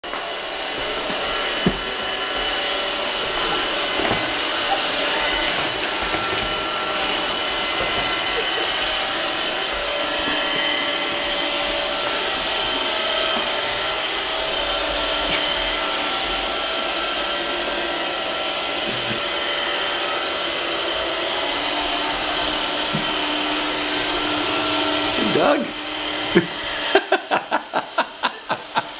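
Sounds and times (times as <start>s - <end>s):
robot vacuum motor and brush: 0.1s - 28.9s.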